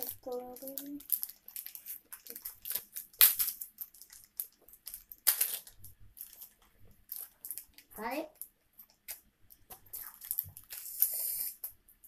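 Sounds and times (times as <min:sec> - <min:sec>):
plastic wrappers crinkling and tearing: 0:00.0 - 0:11.8.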